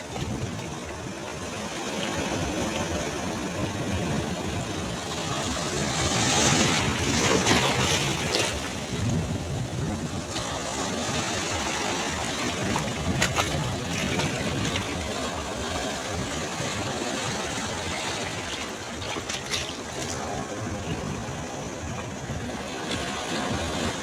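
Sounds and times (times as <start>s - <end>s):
sea waves breaking on shore: 0.0s - 24.0s.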